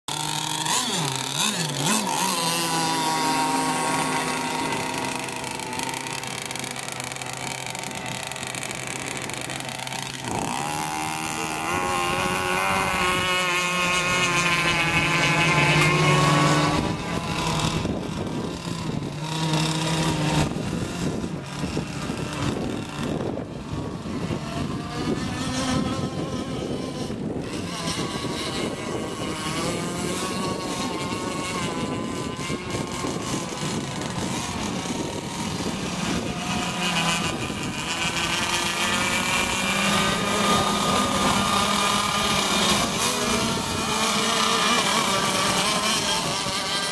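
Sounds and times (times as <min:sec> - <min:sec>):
racing boat engine: 0:00.0 - 0:46.9.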